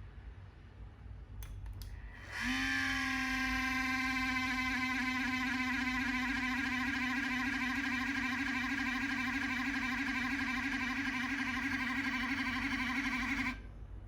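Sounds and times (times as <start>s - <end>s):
computer motherboard buzzing hum: 2.1s - 14.0s.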